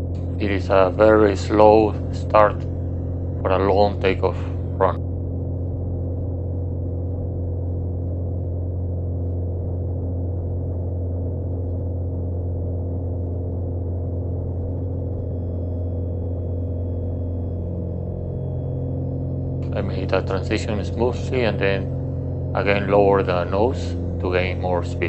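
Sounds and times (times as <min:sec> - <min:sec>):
airplane engine and propeller drone: 0:00.0 - 0:25.0.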